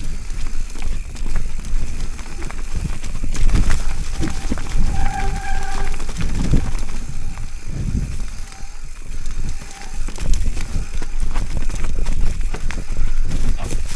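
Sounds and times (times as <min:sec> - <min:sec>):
bike clattering over rough ground: 0:00.0 - 0:13.9
wind buffeting microphone: 0:00.0 - 0:13.9.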